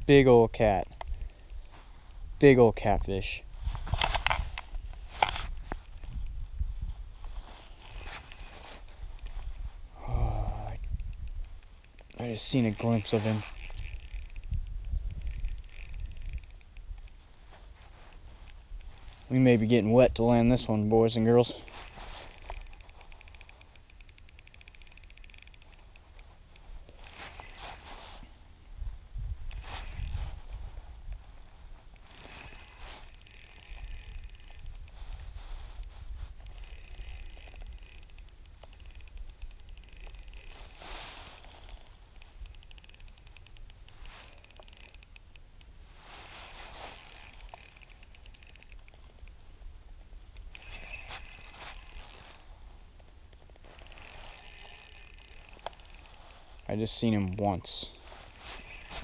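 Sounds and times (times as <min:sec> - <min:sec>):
fishing reel clicking and ratcheting: 0:00.0 - 0:28.3, 0:29.4 - 0:30.8, 0:31.9 - 0:49.7, 0:50.4 - 0:52.6, 0:53.3 - 0:59.0.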